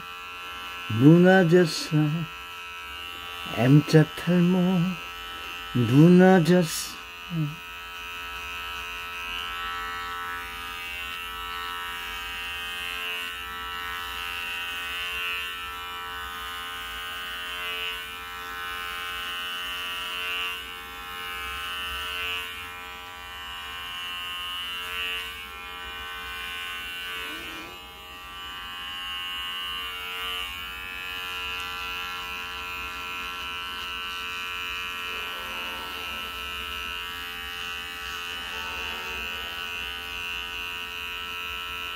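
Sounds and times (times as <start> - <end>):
electric hair clipper buzzing: 0.0 - 41.9.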